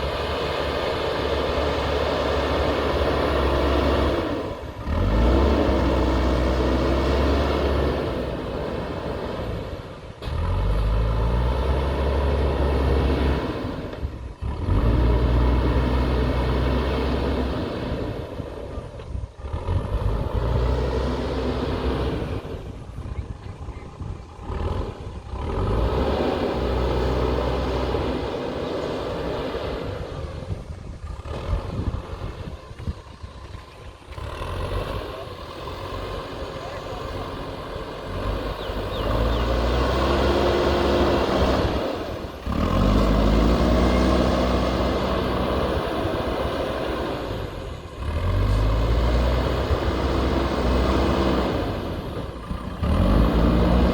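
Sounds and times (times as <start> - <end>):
diesel engine under load: 0.0 - 53.9.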